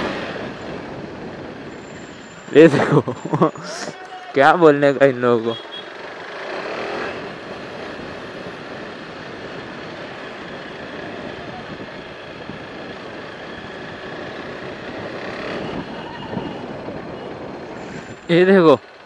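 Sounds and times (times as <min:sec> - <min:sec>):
motorcycle road noise: 0:00.0 - 0:19.0.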